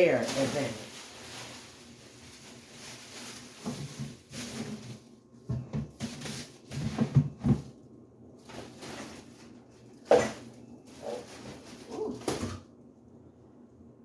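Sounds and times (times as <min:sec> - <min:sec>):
household items knocking and rustling: 0:00.1 - 0:07.8, 0:08.4 - 0:12.6.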